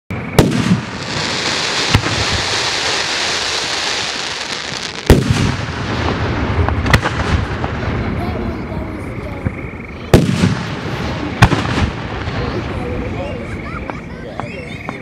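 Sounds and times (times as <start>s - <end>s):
fireworks bangs: 0.1s - 15.0s
fireworks hiss: 0.2s - 15.0s.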